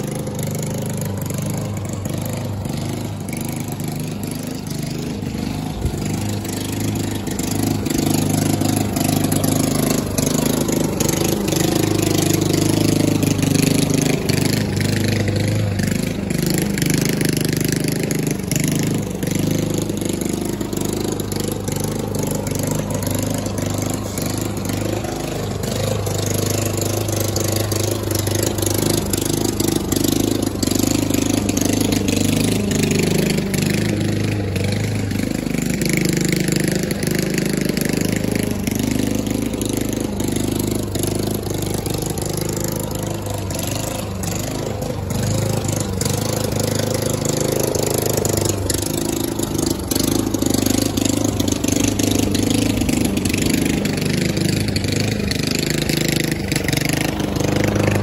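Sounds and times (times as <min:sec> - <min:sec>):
lawn mower running: 0:00.0 - 0:58.0.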